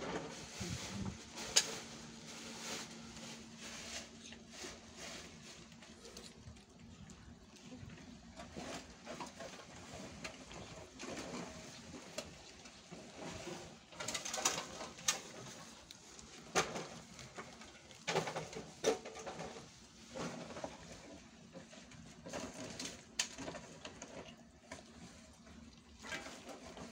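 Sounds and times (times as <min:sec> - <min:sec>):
cats eating: 0:00.0 - 0:26.9.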